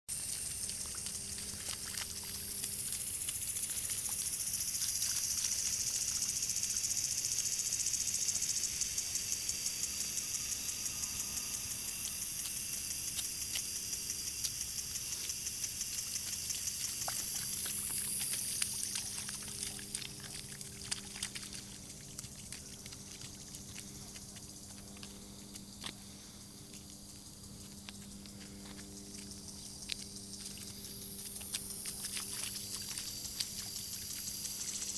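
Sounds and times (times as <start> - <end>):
footsteps splashing in puddle: 0.1 - 6.9, 12.2 - 26.9, 27.5 - 34.9.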